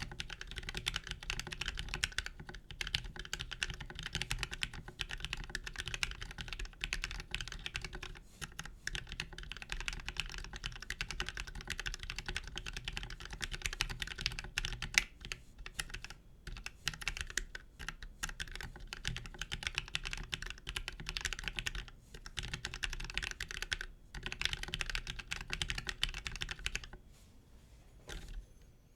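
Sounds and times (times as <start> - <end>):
fast mechanical keyboard typing: 0.0 - 27.0.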